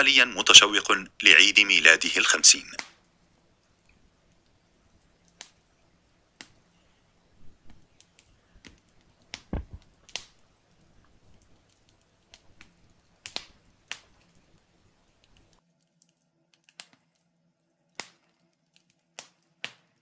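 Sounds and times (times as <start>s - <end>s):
faint fire hiss: 0.0s - 20.0s
wood logs crackling and popping: 0.0s - 20.0s.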